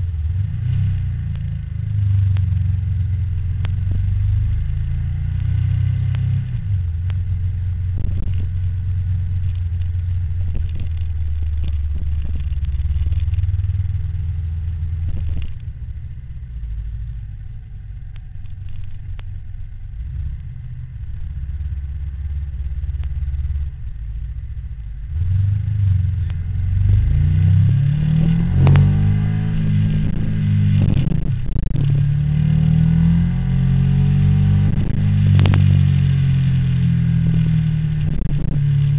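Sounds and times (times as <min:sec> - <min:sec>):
vehicle engines rumbling and revving: 0:00.0 - 0:38.9.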